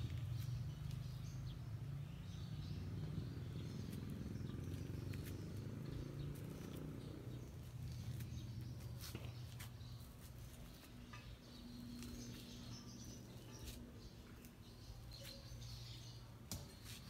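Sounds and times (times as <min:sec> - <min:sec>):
low steady outdoor hum: 0:00.0 - 0:17.0.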